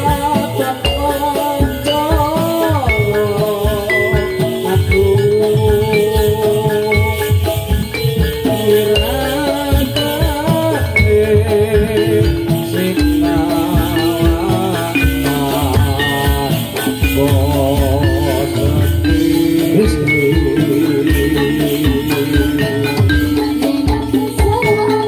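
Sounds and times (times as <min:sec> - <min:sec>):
drums: 0:00.0 - 0:25.0
metallophones: 0:00.0 - 0:25.0
rattling percussion: 0:00.0 - 0:25.0
wavering held melody: 0:00.0 - 0:25.0.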